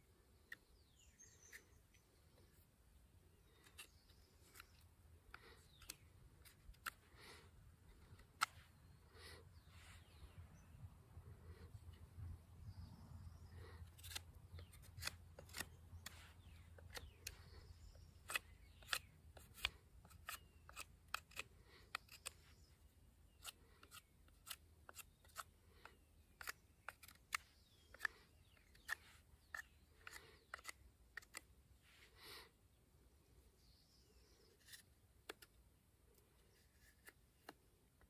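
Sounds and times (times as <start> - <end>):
knife shaving wood: 3.3 - 10.3, 12.7 - 32.5, 34.1 - 38.0.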